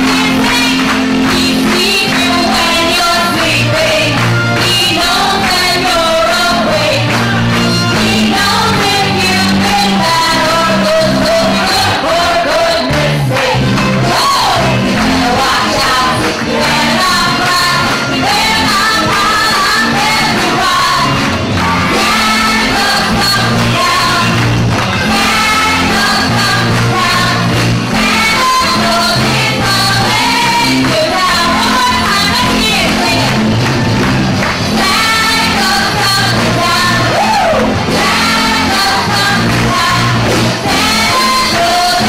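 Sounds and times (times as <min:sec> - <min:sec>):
group singing: 0:00.0 - 0:42.0
instrumental accompaniment with bass: 0:00.0 - 0:42.0.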